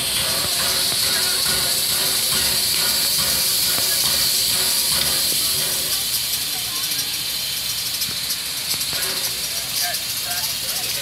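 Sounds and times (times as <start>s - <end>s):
steam hissing from cylinder cocks: 0.0s - 11.0s
steam locomotive moving slowly: 0.0s - 11.0s.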